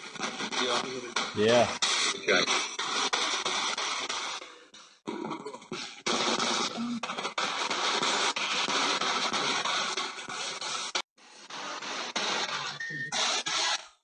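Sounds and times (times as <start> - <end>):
harsh crackling static: 0.0 - 4.5, 5.1 - 14.0.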